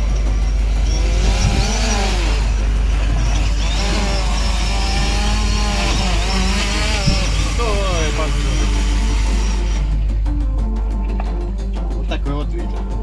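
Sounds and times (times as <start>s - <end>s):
drone propellers whining: 0.0s - 12.0s
low rumble: 0.0s - 13.0s.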